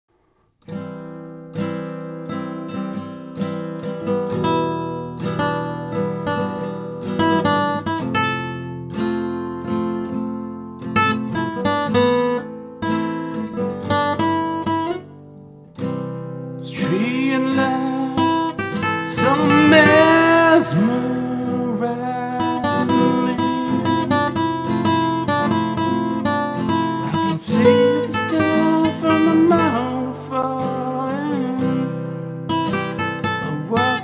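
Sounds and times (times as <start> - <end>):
acoustic guitar chords: 0.3 - 34.0.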